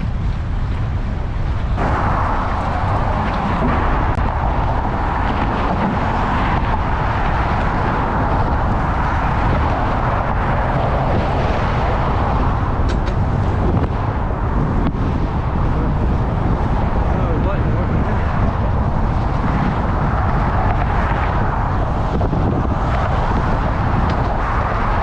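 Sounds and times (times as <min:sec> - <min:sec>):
wind buffeting microphone: 0:00.0 - 0:25.0
high rushing noise: 0:01.6 - 0:25.0.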